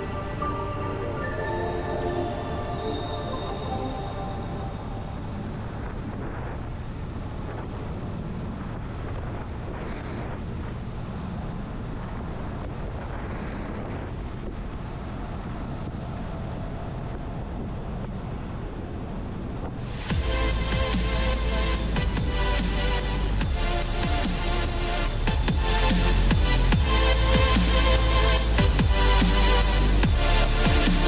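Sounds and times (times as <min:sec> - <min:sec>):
wind rush on microphone: 0:00.0 - 0:31.0.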